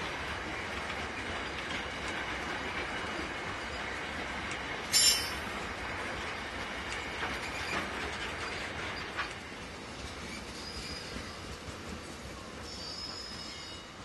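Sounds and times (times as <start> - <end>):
freight train wagons rolling: 0.0 - 14.0.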